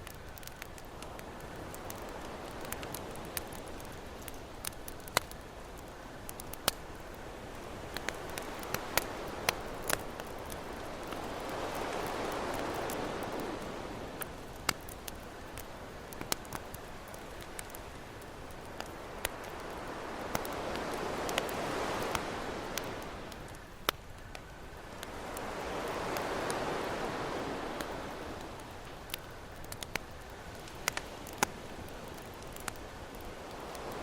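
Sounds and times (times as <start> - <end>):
campfire crackling and popping: 0.0 - 34.0
ocean waves: 1.5 - 15.2, 16.2 - 23.6, 24.6 - 34.0.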